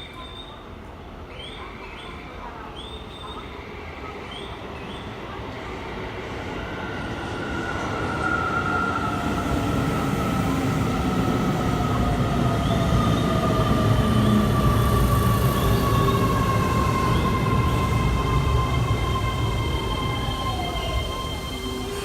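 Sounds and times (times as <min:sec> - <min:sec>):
electric train approaching: 0:03.3 - 0:22.0.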